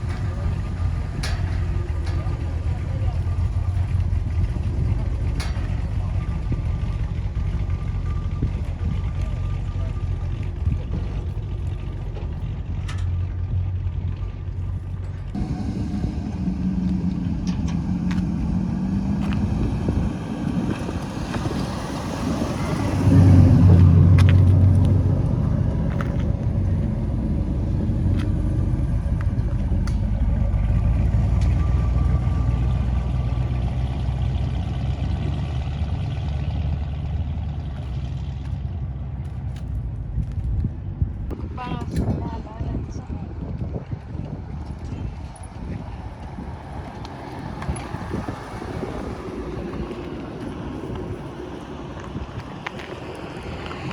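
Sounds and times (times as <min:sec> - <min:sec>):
car engines rumbling: 0:00.0 - 0:53.9.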